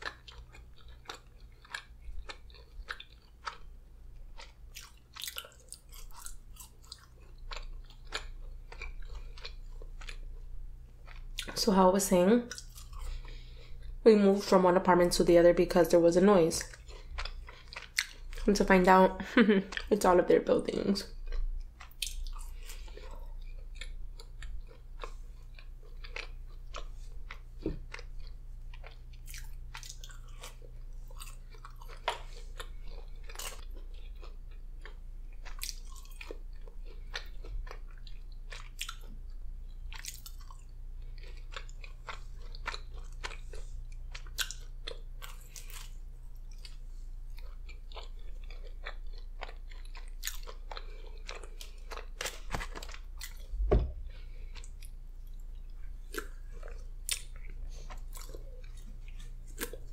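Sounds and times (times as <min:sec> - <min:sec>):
close-up chewing and crunching: 0:00.0 - 0:11.8, 0:12.4 - 0:14.6, 0:16.4 - 0:59.9
steady low hum: 0:00.0 - 0:59.9.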